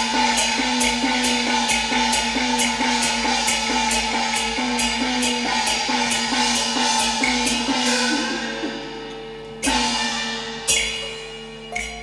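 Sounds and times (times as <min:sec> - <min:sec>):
even percussion beats: 0:00.0 - 0:12.0
loud ringing percussion strikes: 0:00.0 - 0:12.0.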